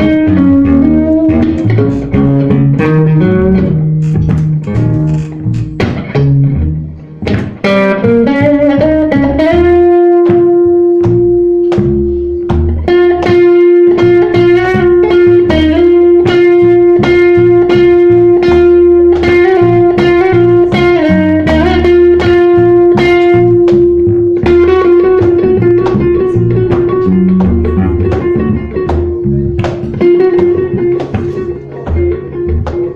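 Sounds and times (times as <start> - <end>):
blues band playing: 0.0 - 32.9.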